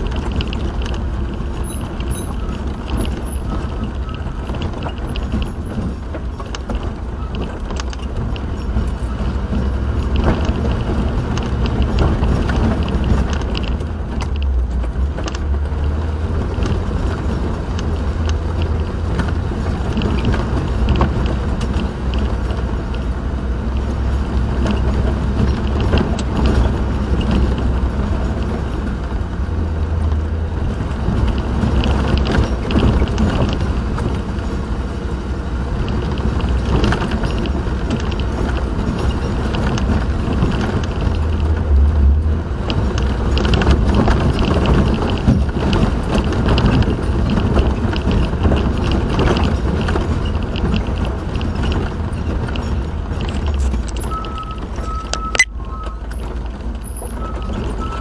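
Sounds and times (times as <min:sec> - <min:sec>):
car road and engine rumble: 0:00.0 - 0:58.0
small clicks and rattles: 0:00.0 - 0:58.0.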